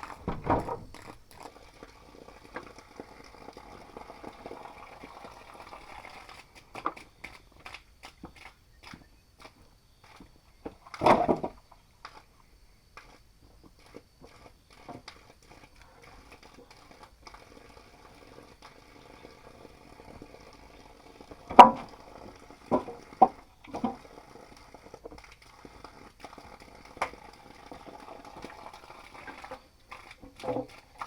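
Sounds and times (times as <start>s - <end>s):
pot of liquid bubbling: 0.0s - 31.0s.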